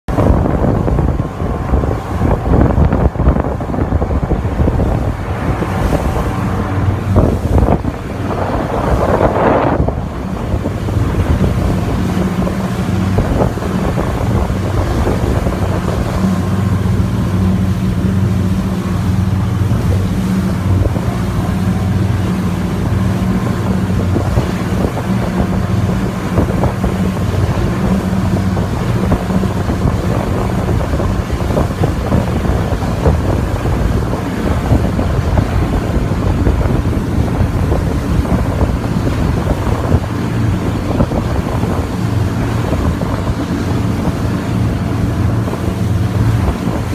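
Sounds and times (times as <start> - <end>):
boat engine droning: 0.1 - 46.9
wind buffeting microphone: 0.1 - 46.9.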